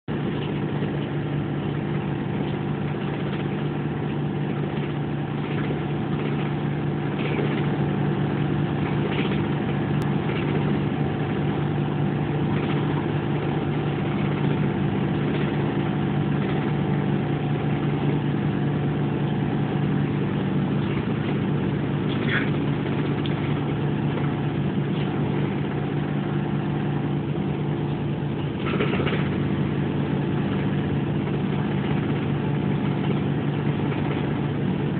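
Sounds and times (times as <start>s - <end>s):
bus engine drone: 0.0s - 34.9s
road noise: 0.0s - 34.9s.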